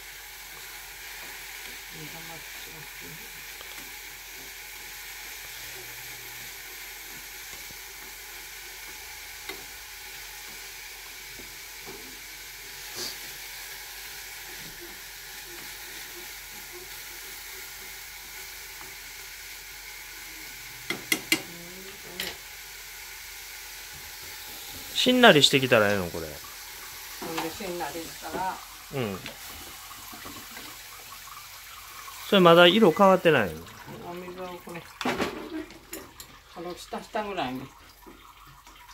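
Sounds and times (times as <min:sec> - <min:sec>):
food sizzling in pan: 0:00.0 - 0:38.9.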